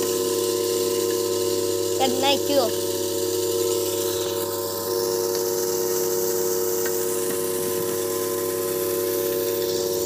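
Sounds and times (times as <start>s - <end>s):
flour mill motor whine: 0.0s - 10.0s.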